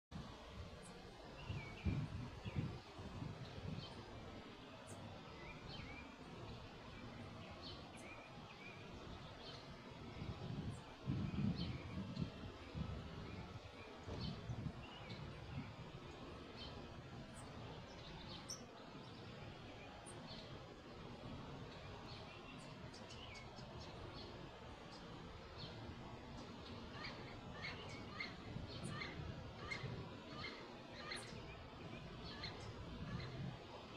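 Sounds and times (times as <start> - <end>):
faint low outdoor rumble: 0.1 - 33.9
low background hiss: 0.2 - 33.9
birds chirping: 0.8 - 33.9.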